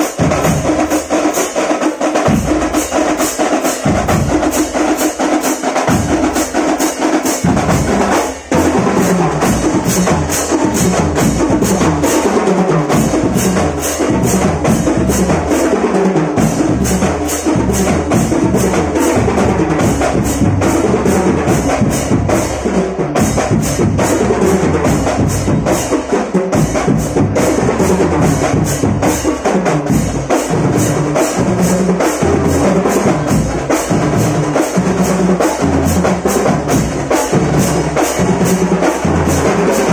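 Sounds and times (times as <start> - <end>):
snare drums and bass drums: 0.0 - 39.9.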